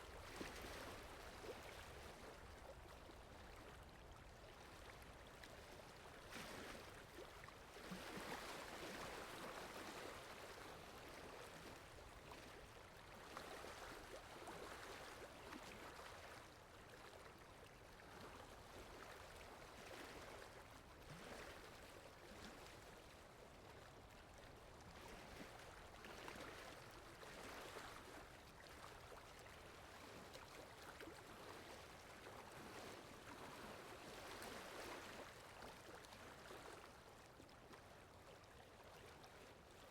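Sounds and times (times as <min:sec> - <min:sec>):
faint rushing water: 0:00.0 - 0:39.9.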